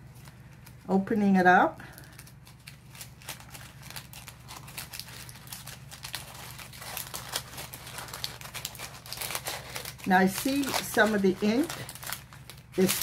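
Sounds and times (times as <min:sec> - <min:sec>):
paper crinkling: 0:00.0 - 0:00.9, 0:01.9 - 0:13.0.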